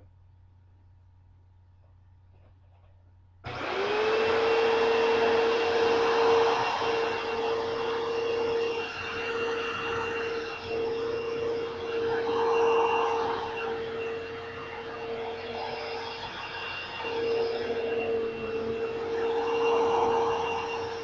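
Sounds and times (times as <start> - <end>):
vacuum cleaner motor whining: 3.4 - 21.0.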